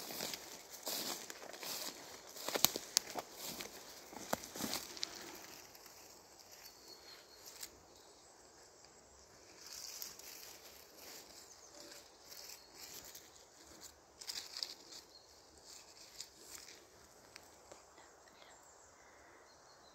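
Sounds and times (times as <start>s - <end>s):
dry leaves rustling underfoot: 0.0s - 7.8s, 9.3s - 17.7s.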